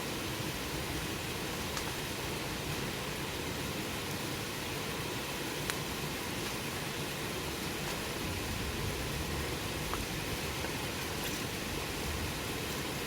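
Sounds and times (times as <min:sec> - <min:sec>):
campfire hissing: 0:00.0 - 0:13.0.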